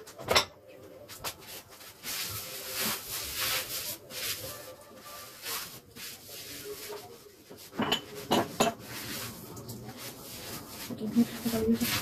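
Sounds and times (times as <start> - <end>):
food rustling and rubbing: 1.0 - 12.0.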